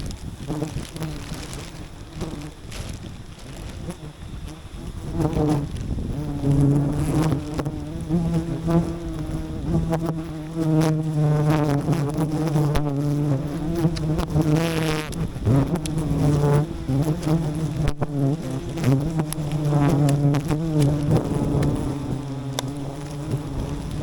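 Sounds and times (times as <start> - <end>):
bees buzzing: 0.0 - 24.0
single bee flying past: 0.5 - 24.0.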